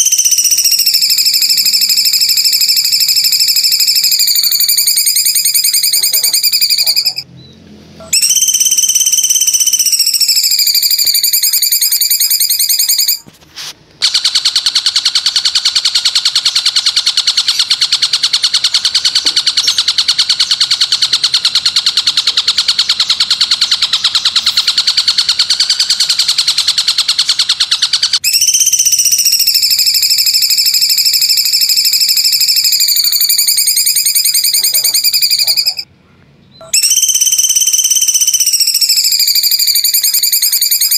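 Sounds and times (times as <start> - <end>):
high trilled bird calls: 0.0 - 13.3, 14.0 - 40.9.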